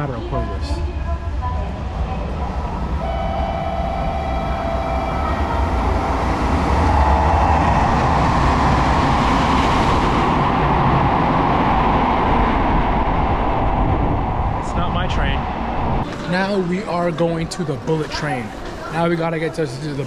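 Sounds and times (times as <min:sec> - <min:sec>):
electric train passing: 0:00.0 - 0:16.8.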